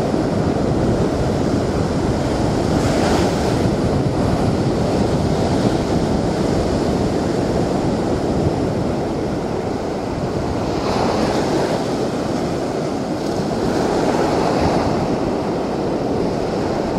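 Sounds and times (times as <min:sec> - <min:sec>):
small waves breaking on beach: 0:00.0 - 0:16.9
wind buffeting microphone: 0:00.0 - 0:16.9.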